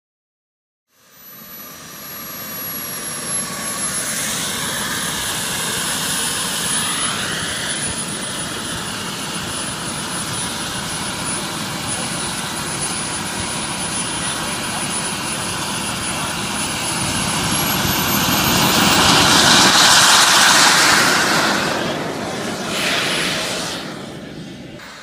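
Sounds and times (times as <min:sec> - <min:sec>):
high turbine whine: 0:00.9 - 0:25.0
model jet turbine running: 0:00.9 - 0:25.0.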